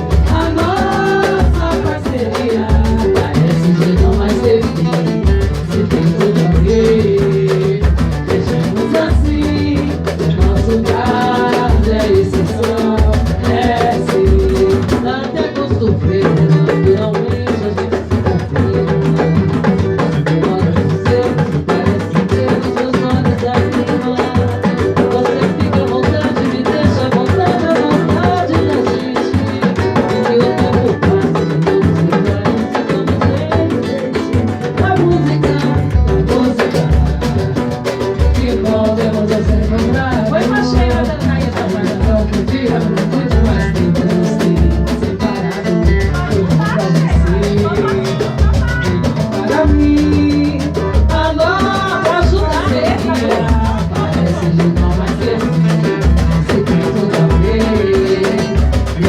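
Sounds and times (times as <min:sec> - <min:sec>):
latin band playing: 0:00.0 - 0:59.0.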